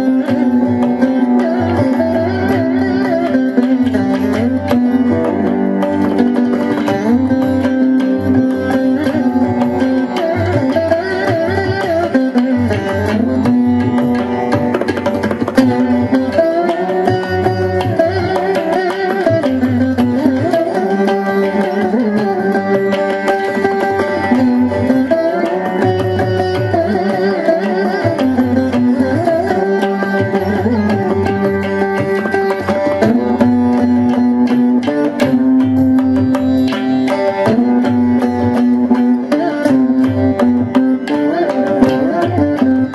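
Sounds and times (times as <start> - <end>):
percussion accompaniment: 0.0 - 42.9
plucked veena melody: 0.0 - 42.9.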